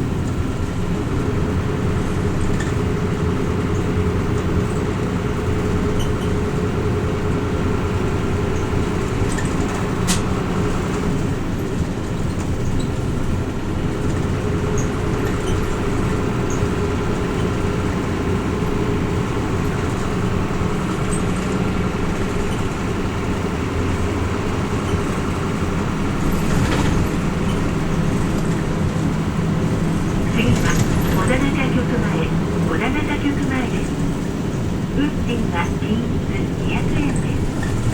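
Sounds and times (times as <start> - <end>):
bus diesel engine running: 0.0 - 37.9
road noise: 0.0 - 37.9.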